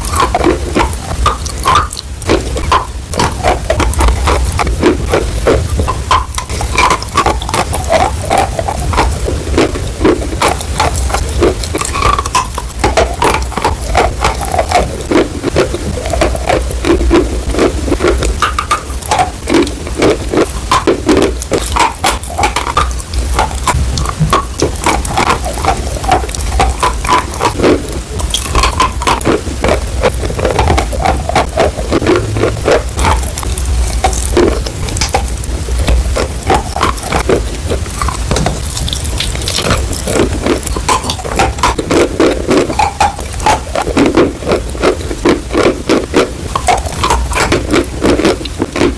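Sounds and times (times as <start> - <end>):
low steady hum: 0.0 - 48.6
chewing and crunching: 0.0 - 48.9.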